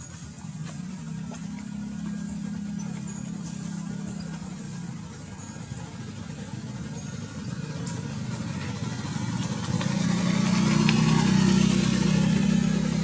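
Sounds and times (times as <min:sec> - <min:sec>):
engine low hum: 0:00.0 - 0:13.0.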